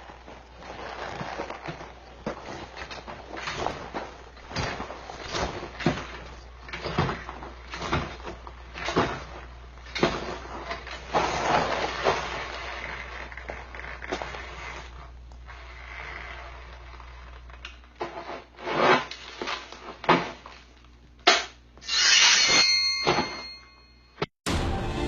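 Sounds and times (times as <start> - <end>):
rustling and scraping: 0.0 - 20.9.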